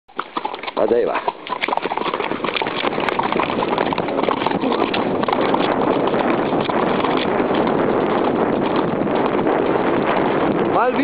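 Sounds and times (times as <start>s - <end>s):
horse galloping on concrete: 0.1s - 11.0s.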